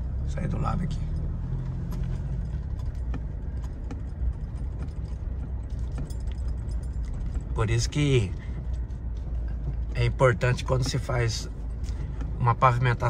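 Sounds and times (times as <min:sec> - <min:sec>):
engine and road rumble: 0:00.0 - 0:13.0
vehicle rattles and knocks: 0:00.0 - 0:13.0.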